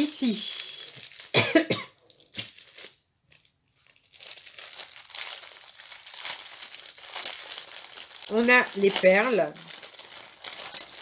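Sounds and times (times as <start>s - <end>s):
plastic bags of beads crinkling: 0.0s - 1.4s, 2.0s - 11.0s.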